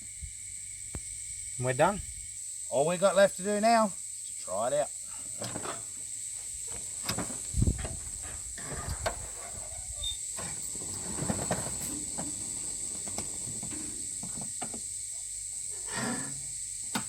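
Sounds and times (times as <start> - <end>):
high-pitched hiss: 0.0 - 17.0.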